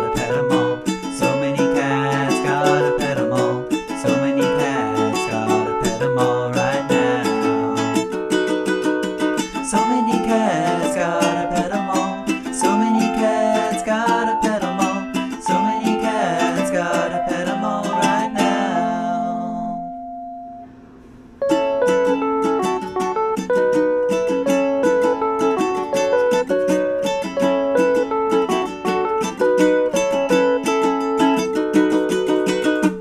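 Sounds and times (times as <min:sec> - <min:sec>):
ukulele music: 0:00.0 - 0:33.0.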